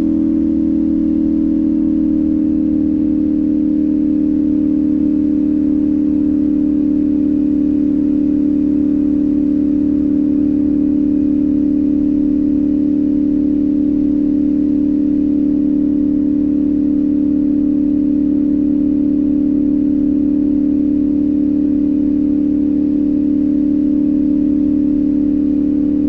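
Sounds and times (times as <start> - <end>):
motorcycle engine humming: 0.0 - 26.0.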